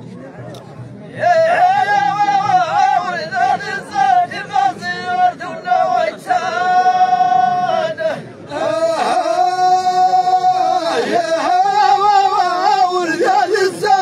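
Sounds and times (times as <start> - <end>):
men chanting in unison: 1.2 - 14.0.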